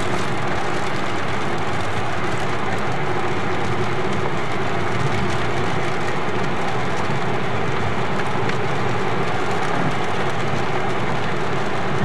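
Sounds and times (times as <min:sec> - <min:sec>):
car engine and tyres on wet road: 0:00.0 - 0:12.0.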